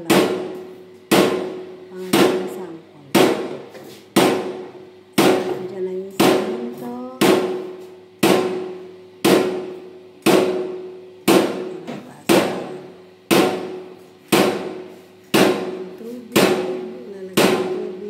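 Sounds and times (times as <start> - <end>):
faint steady hum: 0.0 - 18.0
loud mechanical knocks: 0.0 - 18.0.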